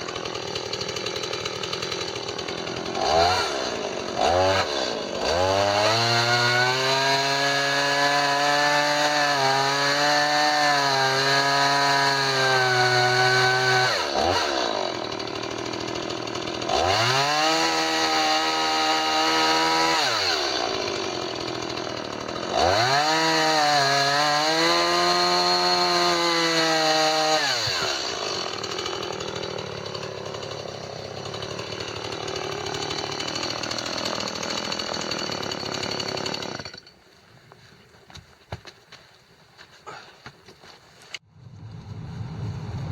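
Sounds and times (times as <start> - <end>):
chainsaw cutting wood: 0.0 - 37.2, 39.8 - 41.2.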